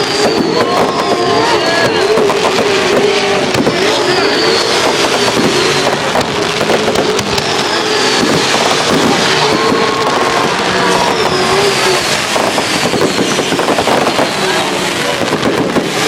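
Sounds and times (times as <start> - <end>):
race engines revving: 0.0 - 16.0.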